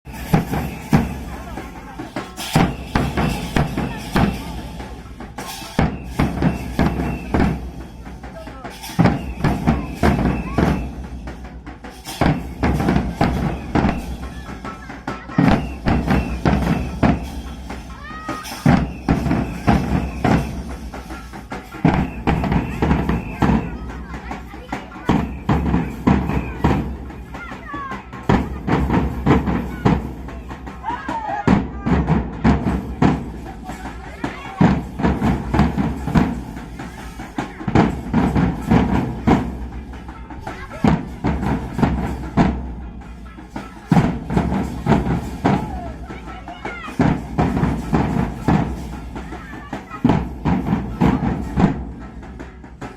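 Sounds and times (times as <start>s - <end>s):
barrel drum beaten with sticks: 0.1s - 52.9s.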